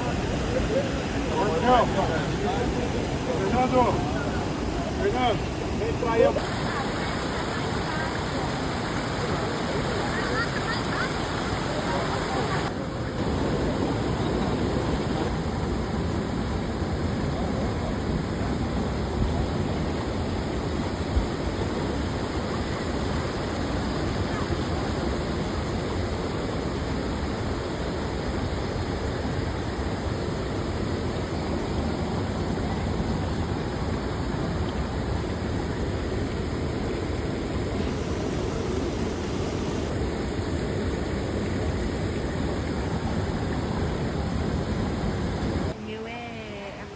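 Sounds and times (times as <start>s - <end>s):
waterfall rushing: 0.0s - 45.8s.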